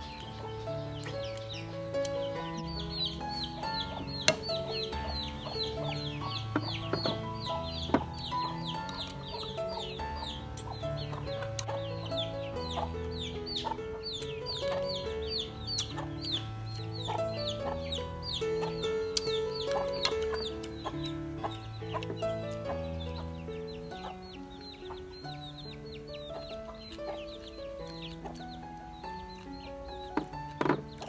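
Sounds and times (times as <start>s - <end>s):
music of held notes: 0.0s - 31.0s.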